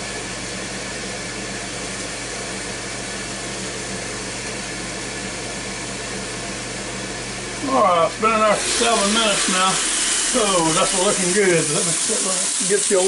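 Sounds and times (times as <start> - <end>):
fan blowing air: 0.0 - 13.0.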